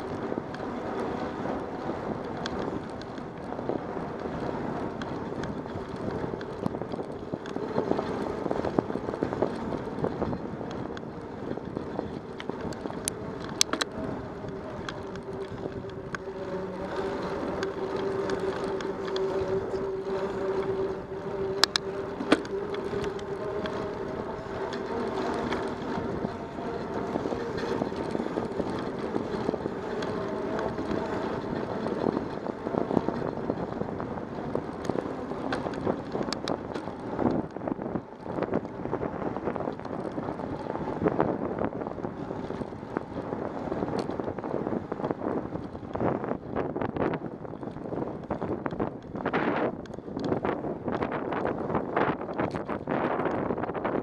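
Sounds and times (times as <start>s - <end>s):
bicycle tyre and road noise: 0.0s - 54.0s
sharp clicks and knocks from bumps: 0.0s - 54.0s
wind rushing over microphone: 0.0s - 54.0s.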